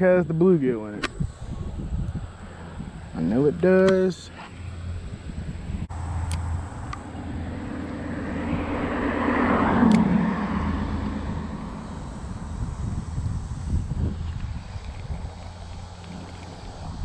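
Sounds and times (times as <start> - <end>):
vehicle passing by: 1.7 - 17.0.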